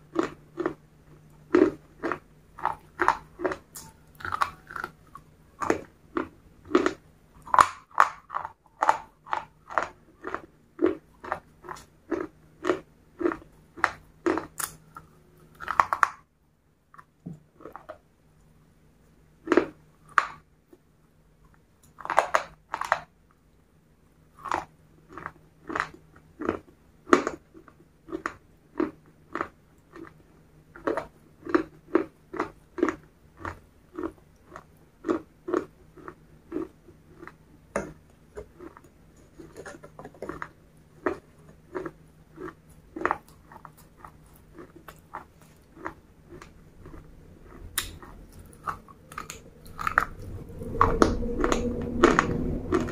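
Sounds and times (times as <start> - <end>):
crunchy snack chewing: 0.0 - 16.2, 24.4 - 52.9.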